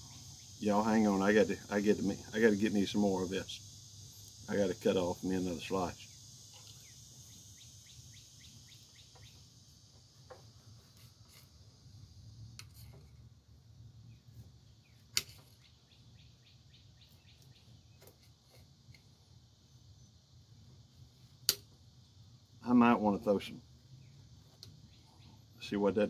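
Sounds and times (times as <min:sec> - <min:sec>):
high insect drone: 0:00.0 - 0:26.0.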